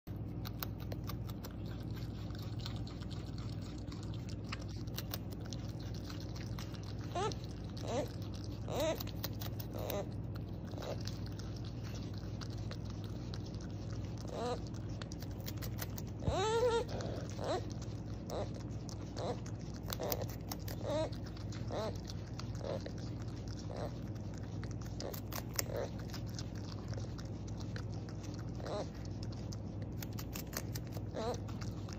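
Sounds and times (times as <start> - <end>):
beaver chewing: 0.1 - 31.9
low hum: 0.1 - 31.9.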